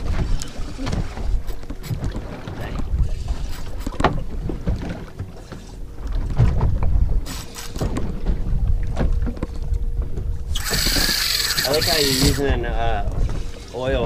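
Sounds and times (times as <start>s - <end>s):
water against boat hull: 0.0s - 14.0s
wind rumbling on microphone: 0.0s - 14.0s.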